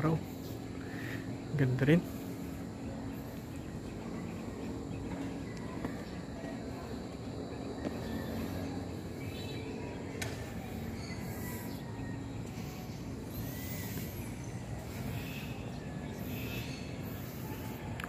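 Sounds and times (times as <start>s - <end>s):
faint bird chirps: 0.0s - 18.0s
high sweeping bird call: 0.0s - 18.0s
low background hum: 0.0s - 18.0s.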